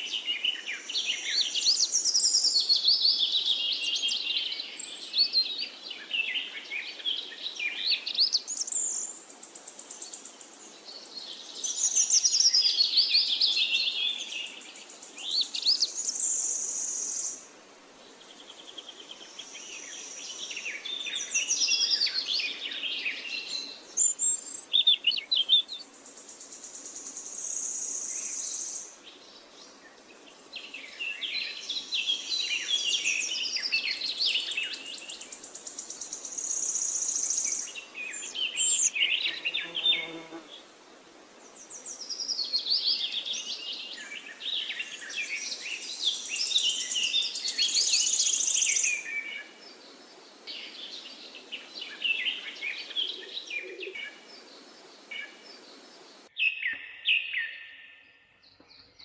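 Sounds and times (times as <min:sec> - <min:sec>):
birds chirping and twittering: 0:00.0 - 0:17.4, 0:18.1 - 0:59.0.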